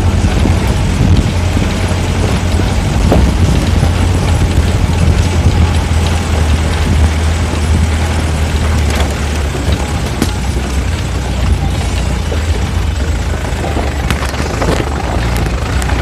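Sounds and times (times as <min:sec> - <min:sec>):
road noise: 0:00.0 - 0:16.0
vehicle engine low rumble: 0:00.0 - 0:16.0.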